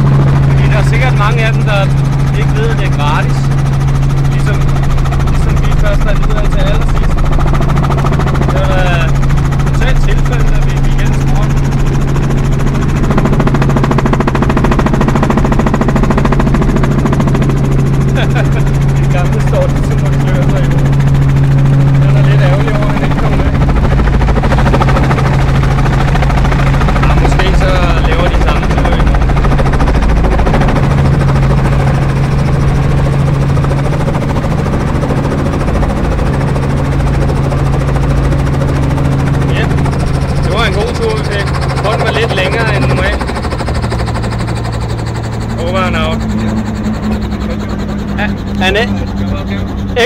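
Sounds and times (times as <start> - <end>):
helicopter rotor chop: 0.0 - 50.0
low engine hum: 0.0 - 50.0.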